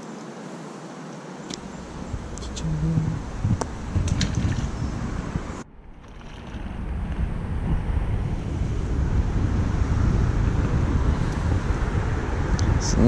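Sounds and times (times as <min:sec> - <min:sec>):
wind buffeting microphone: 0:01.5 - 0:13.0.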